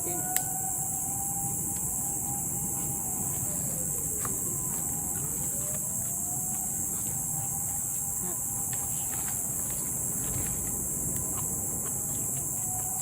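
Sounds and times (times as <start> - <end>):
campfire crackling: 0.0 - 13.0
shrill insect chorus: 0.0 - 13.0.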